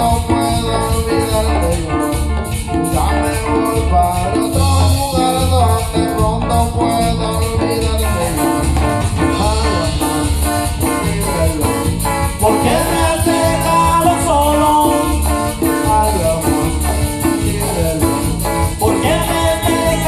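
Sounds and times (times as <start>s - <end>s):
live band playing dance music: 0.0s - 20.0s.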